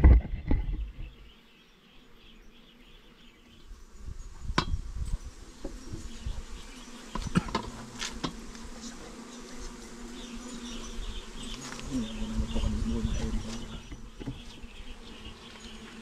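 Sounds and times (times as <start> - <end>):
bees buzzing: 0.8 - 16.0.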